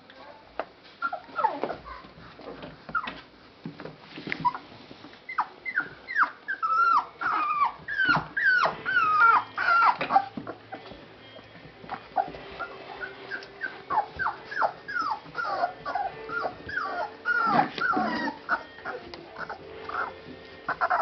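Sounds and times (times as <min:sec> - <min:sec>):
puppies whimpering: 0:01.0 - 0:02.1, 0:02.9 - 0:03.3, 0:05.3 - 0:21.0.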